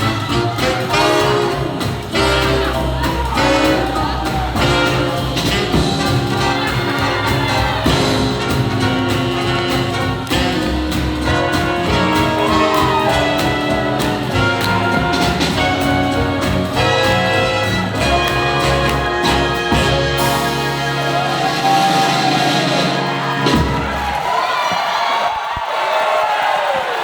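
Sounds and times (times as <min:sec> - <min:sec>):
steady drum beat: 0:00.0 - 0:24.4
swing jazz band playing: 0:00.0 - 0:24.4
horns: 0:00.0 - 0:27.0.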